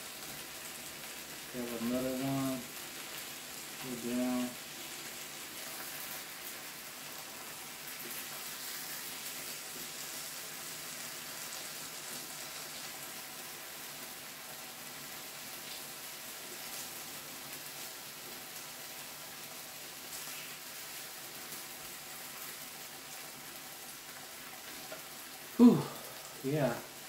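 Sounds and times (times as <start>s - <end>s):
meat sizzling on a grill: 0.0s - 27.0s.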